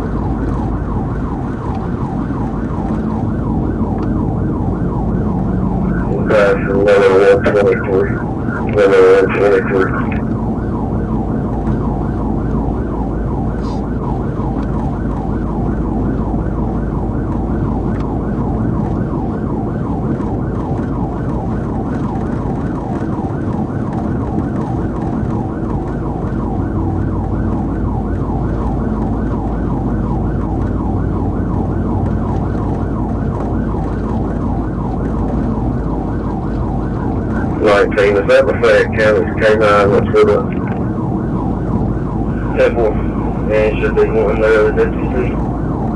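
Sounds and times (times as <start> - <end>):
car engine and road noise: 0.0 - 45.9
police siren yelping: 0.0 - 45.9.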